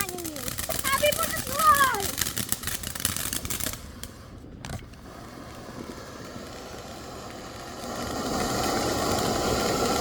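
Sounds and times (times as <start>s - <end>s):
firework hissing and crackling: 0.0s - 10.0s.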